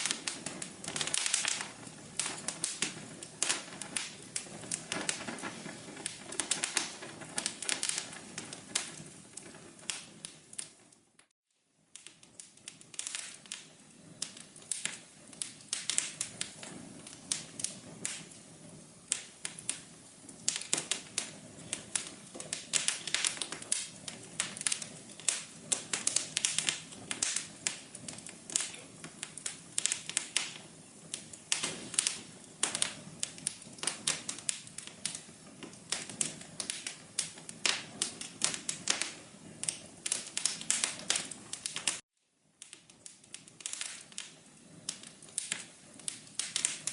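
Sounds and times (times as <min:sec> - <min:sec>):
fireplace fire crackling: 0:00.0 - 0:46.9.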